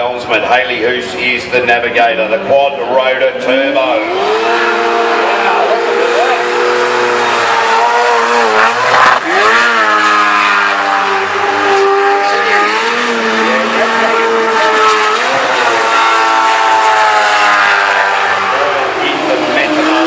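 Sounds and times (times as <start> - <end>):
boat engine revving: 3.7 - 20.0.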